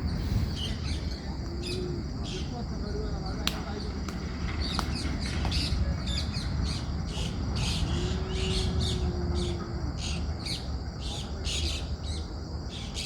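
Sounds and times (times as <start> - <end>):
steady low rumble: 0.0 - 12.7
birds chirping: 0.0 - 13.0.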